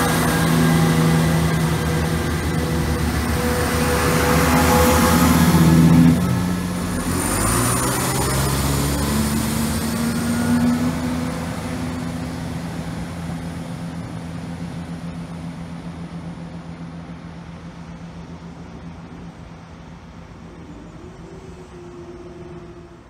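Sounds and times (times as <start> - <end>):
diesel train engine droning: 0.0 - 23.0.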